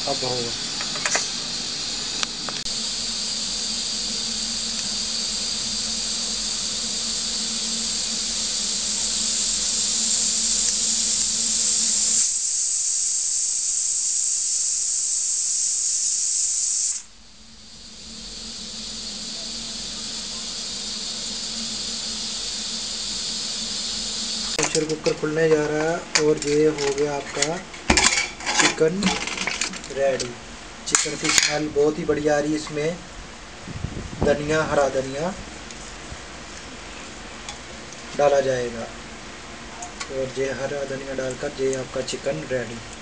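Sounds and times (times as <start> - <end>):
pressure cooker hissing steam: 0.0 - 43.0.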